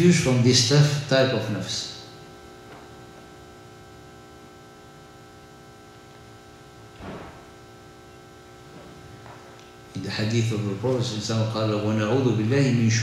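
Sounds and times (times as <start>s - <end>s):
electrical hum of sound system: 0.0s - 13.0s
low room rumble: 0.0s - 13.0s.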